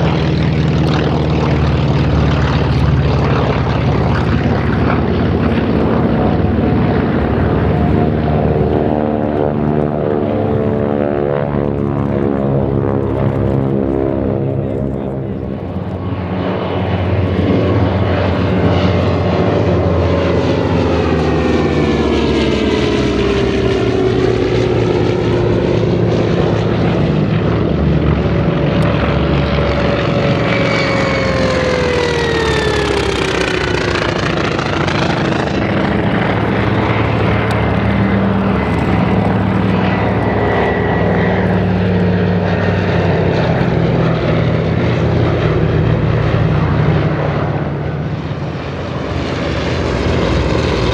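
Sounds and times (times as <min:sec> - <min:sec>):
propeller plane engines droning: 0:00.0 - 0:50.9.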